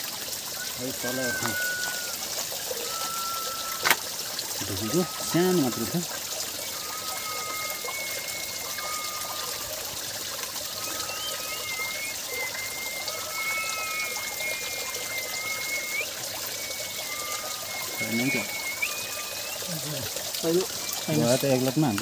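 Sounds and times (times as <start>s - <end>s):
stream trickling among rocks: 0.0s - 22.0s
thin whistling tones: 0.6s - 22.0s.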